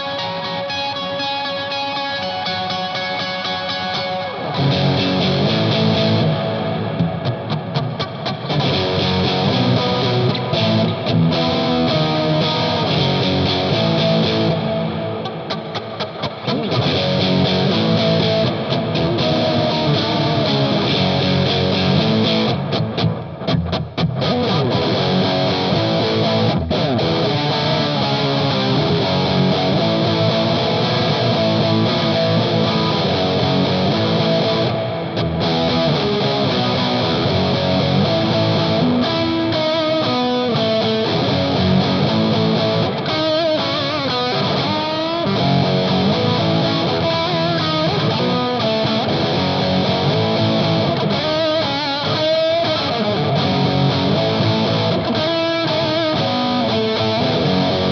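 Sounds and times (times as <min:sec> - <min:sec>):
overdriven electric guitar: 0:00.0 - 0:57.9.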